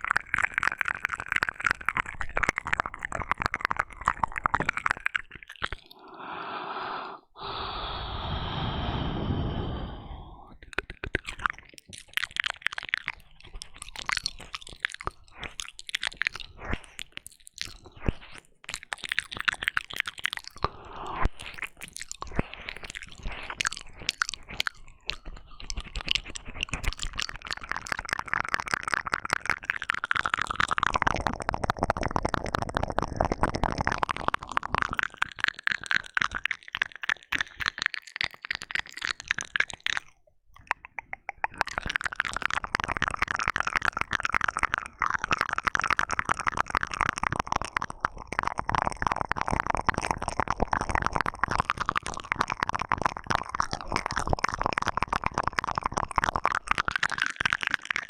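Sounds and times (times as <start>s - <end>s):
wet mouth sounds: 0.0s - 58.0s.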